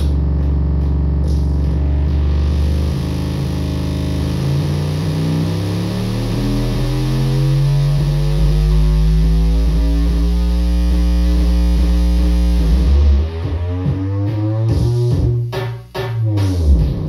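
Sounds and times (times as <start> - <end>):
distorted glitchy keyboard drone: 0.0 - 17.0.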